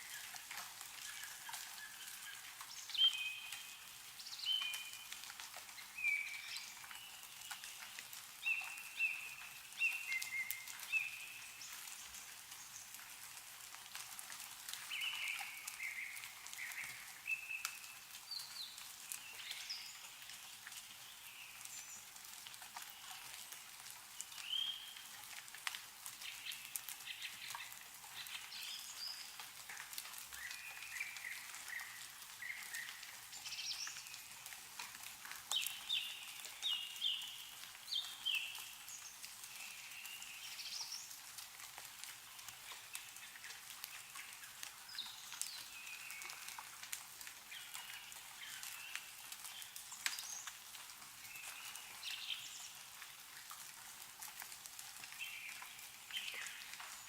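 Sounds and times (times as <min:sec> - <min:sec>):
small birds chirping: 0:00.0 - 0:13.2, 0:14.4 - 0:25.5, 0:26.1 - 0:53.1, 0:55.0 - 0:57.0
meltwater dripping from trees: 0:00.0 - 0:57.0.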